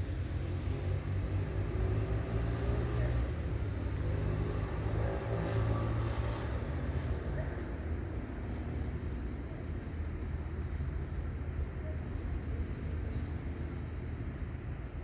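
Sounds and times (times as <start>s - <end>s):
low outdoor rumble: 0.0s - 15.0s
faint distant voices: 0.2s - 15.0s.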